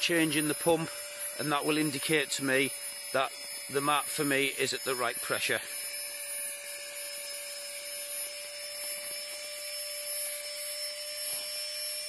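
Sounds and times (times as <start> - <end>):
electric air pump whining: 0.0 - 12.0.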